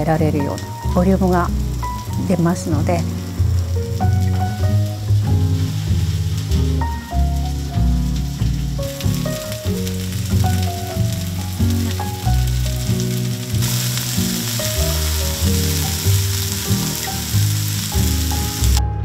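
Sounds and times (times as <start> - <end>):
food sizzling in a frying pan: 0.0 - 18.8
music with low held notes: 0.0 - 19.0.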